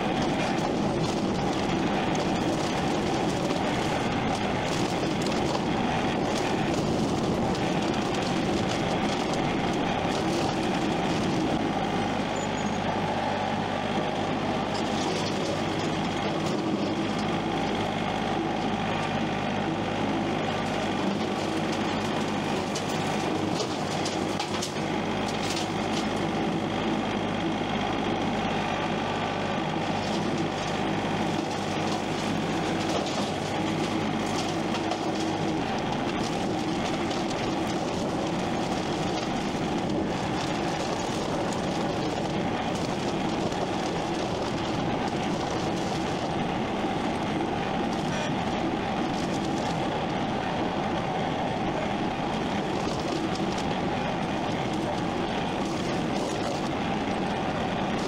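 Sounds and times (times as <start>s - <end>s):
heavy engine running under load: 0.0s - 58.0s.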